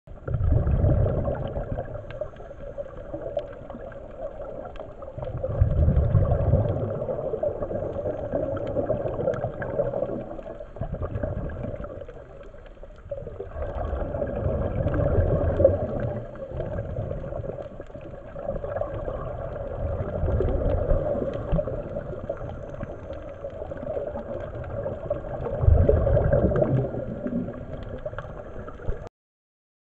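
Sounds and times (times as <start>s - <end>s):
exhaled bubbles rumbling: 0.1s - 29.1s
underwater hum: 0.1s - 29.1s.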